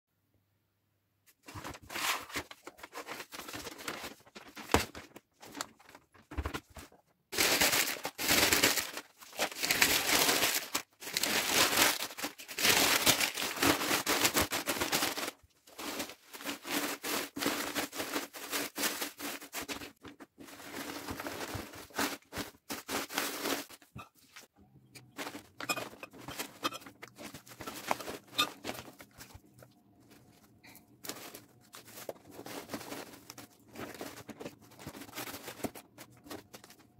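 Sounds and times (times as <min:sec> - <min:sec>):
packing material rustling: 0:01.4 - 0:36.9.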